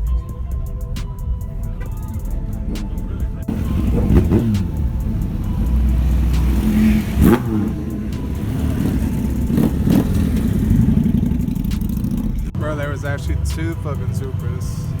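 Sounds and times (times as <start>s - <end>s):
car engine revving: 0.0s - 15.0s
idling car engines rumbling: 0.0s - 15.0s.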